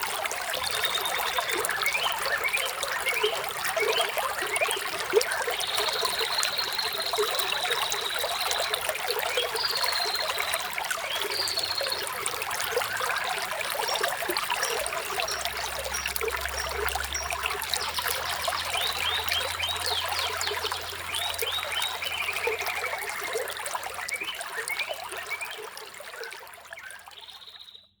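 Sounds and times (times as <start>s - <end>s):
water trickling over stones: 0.0s - 27.4s.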